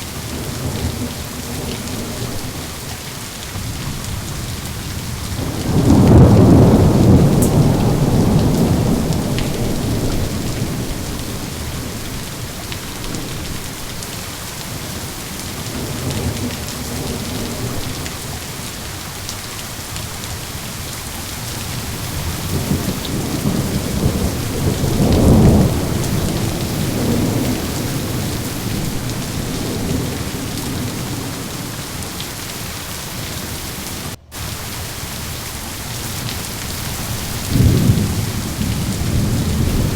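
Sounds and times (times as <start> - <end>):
steady rain: 0.0 - 39.9
rolling thunder: 3.5 - 18.7, 19.8 - 35.0, 35.8 - 39.9.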